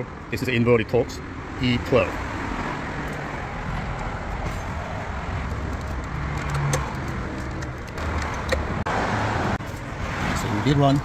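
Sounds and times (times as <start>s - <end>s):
traffic rumble and hiss: 0.0s - 11.0s.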